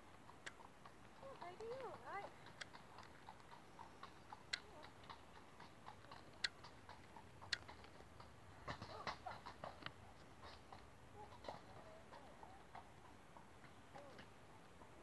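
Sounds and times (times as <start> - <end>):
faint clicks and ticks: 0.0 - 15.0.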